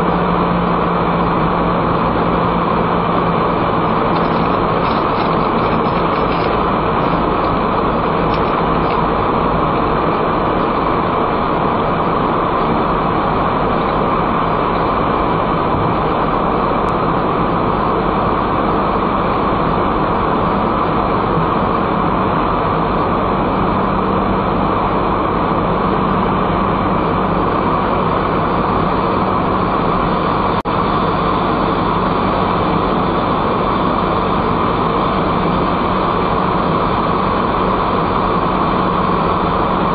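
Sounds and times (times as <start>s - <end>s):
car engine hum: 0.0s - 39.9s
road and tyre noise: 0.0s - 39.9s.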